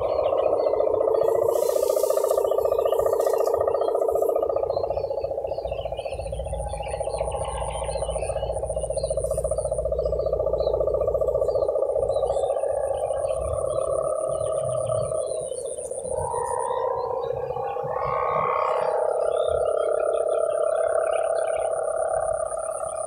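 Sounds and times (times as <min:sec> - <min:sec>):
kite hummer buzzing drone: 0:00.0 - 0:23.0.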